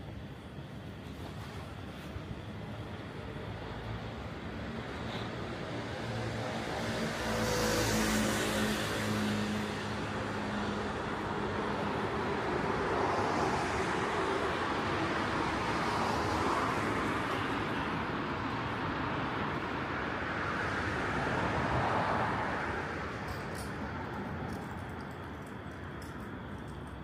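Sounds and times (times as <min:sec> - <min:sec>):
cars passing: 0:03.2 - 0:27.0.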